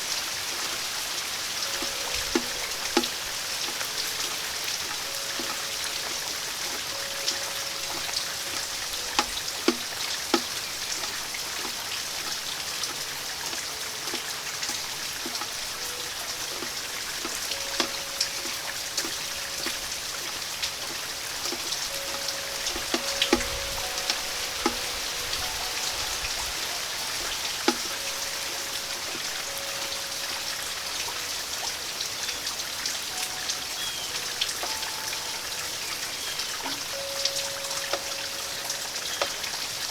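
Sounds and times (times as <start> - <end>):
steady rain falling: 0.0 - 39.9
wind chimes ringing: 0.0 - 39.9.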